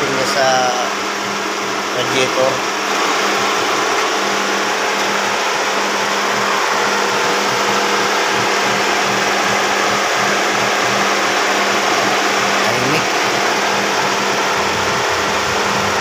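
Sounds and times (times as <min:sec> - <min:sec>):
car engine idling: 0:00.0 - 0:16.0
radiator cooling fans whirring: 0:00.0 - 0:16.0.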